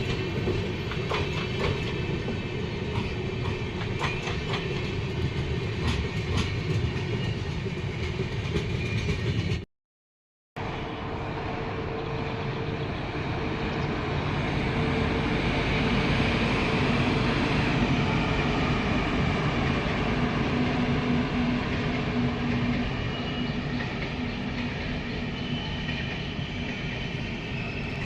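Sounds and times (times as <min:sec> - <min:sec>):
train wheels rumbling on rails: 0:00.0 - 0:09.7, 0:10.6 - 0:28.0.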